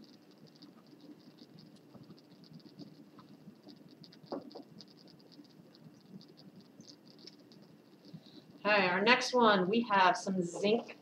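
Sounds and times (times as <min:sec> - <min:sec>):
fast faint ticking: 0:00.0 - 0:11.0.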